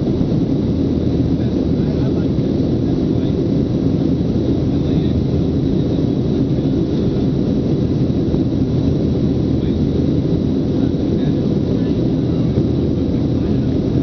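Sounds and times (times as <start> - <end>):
airplane cabin drone: 0.0 - 14.0.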